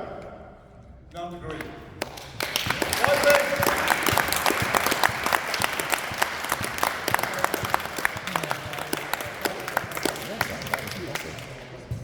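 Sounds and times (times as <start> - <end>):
audience applauding: 2.0 - 11.6.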